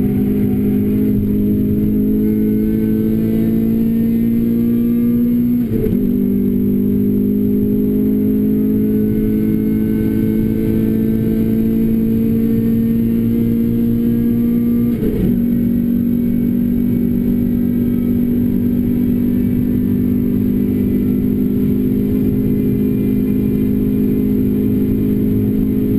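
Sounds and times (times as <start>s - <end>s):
car engine pulling hard: 0.0s - 25.9s.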